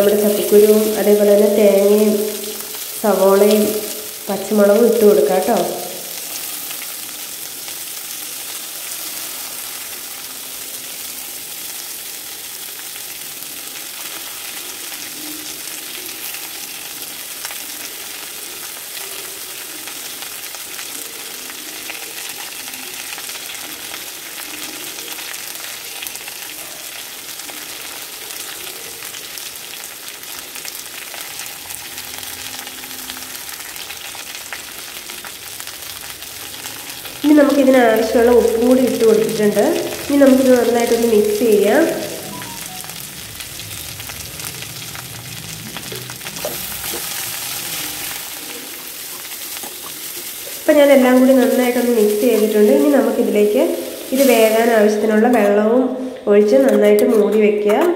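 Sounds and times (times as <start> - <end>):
seeds sizzling in hot oil: 0.0 - 55.6.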